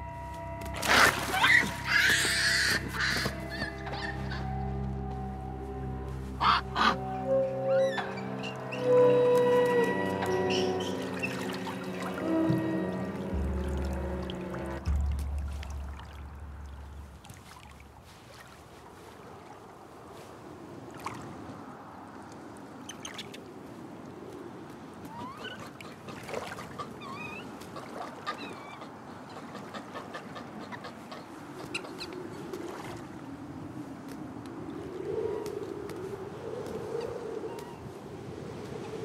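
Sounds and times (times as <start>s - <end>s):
outdoor ambience: 0.0s - 39.0s.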